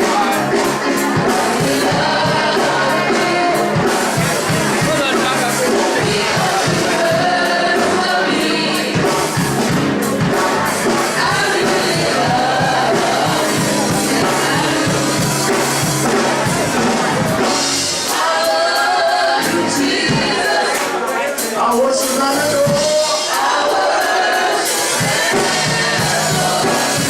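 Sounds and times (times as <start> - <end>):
drum kit beat: 0.0 - 27.0
gospel voices singing with band: 0.0 - 27.0.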